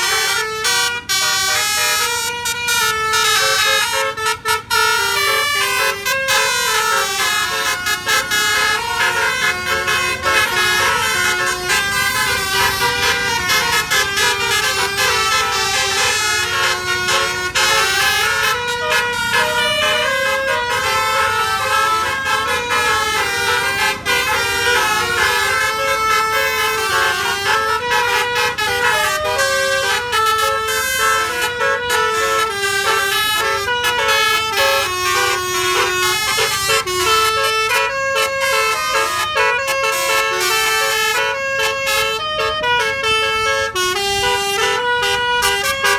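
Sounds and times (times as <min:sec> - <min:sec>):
melody air horn playing tune: 0:00.0 - 0:45.9.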